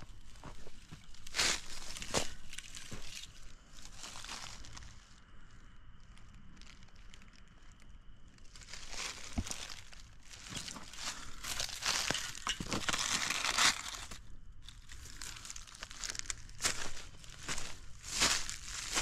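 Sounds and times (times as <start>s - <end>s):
rustling dry grass and leaves: 0.0s - 19.0s.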